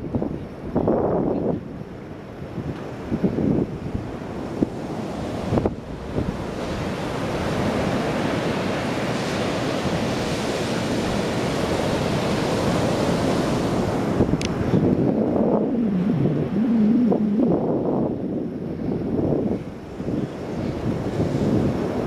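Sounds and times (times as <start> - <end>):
surf breaking on a beach: 0.0 - 22.0
wind on the microphone: 0.0 - 22.0.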